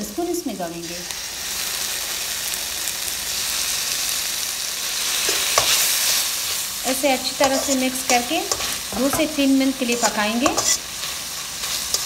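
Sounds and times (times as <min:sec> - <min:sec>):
vegetables sizzling in wok: 0:00.0 - 0:12.0.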